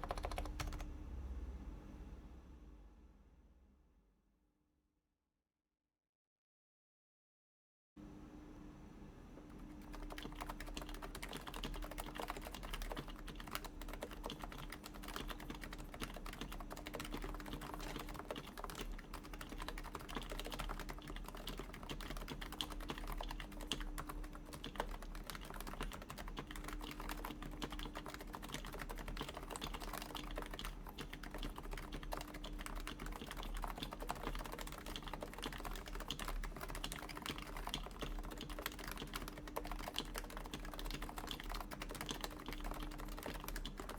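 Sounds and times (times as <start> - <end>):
soft keyboard typing: 0.0 - 0.9, 9.4 - 43.9.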